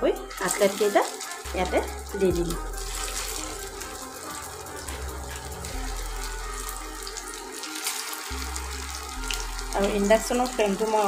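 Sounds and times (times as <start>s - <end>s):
cutlets sizzling in oil: 0.2s - 11.0s.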